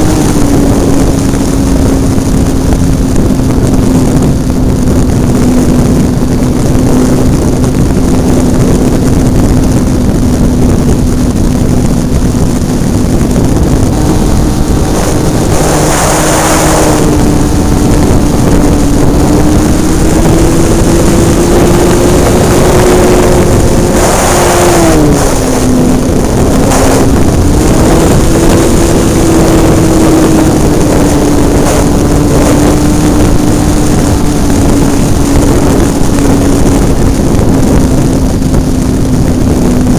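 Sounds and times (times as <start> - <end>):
wind noise rushes: 0.0 - 39.9.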